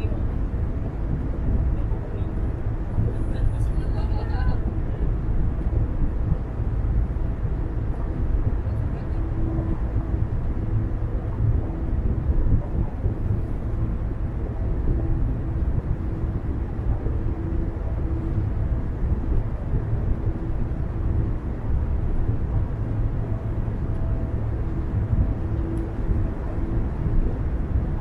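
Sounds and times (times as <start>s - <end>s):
car road and engine noise: 0.0s - 28.0s
faint hum: 0.0s - 28.0s.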